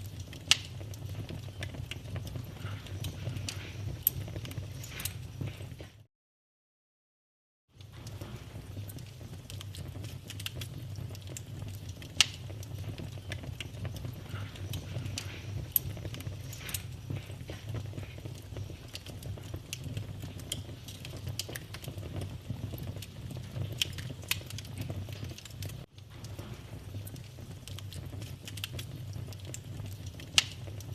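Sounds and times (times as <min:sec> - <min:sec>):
wood fire crackling: 0:00.0 - 0:06.1, 0:07.7 - 0:30.9.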